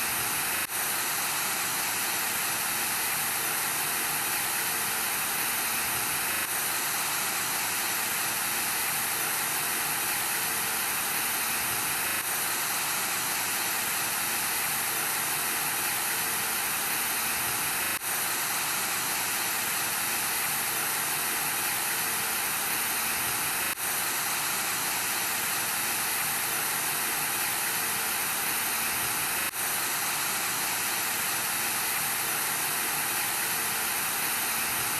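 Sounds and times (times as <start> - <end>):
television static hiss: 0.0 - 34.9.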